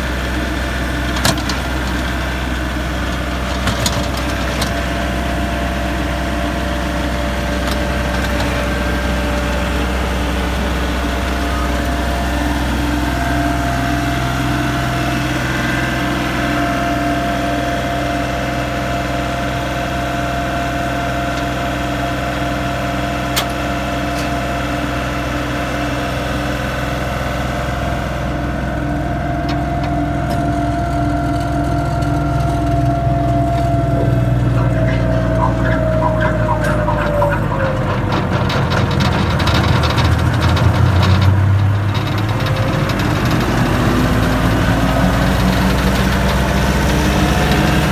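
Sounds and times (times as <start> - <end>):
wood chipper engine running: 0.0 - 47.9.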